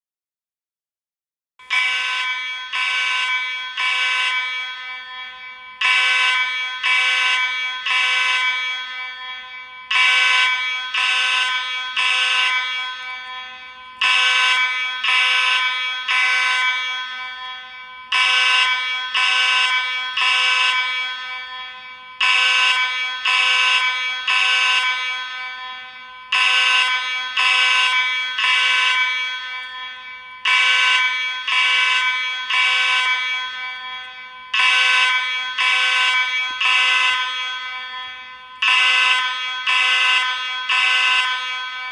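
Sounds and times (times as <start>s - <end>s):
fire alarm horn blasts: 1.6s - 41.9s.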